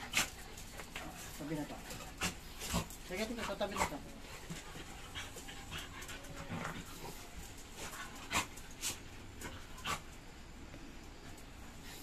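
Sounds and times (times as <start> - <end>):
dogs panting and whimpering: 0.0 - 10.3
dogs scuffling: 0.0 - 10.3.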